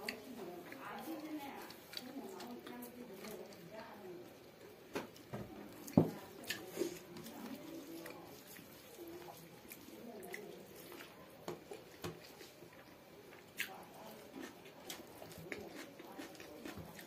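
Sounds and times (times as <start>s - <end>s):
wet chewing and lip smacks: 0.0s - 3.7s, 4.6s - 17.0s.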